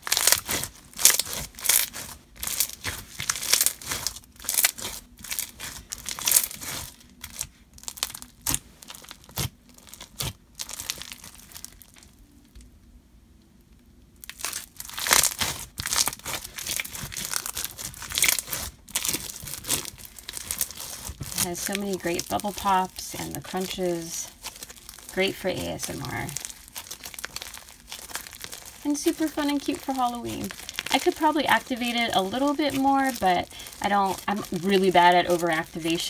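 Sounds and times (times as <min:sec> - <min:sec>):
slime crunching and popping: 0:00.0 - 0:12.2, 0:14.2 - 0:36.0.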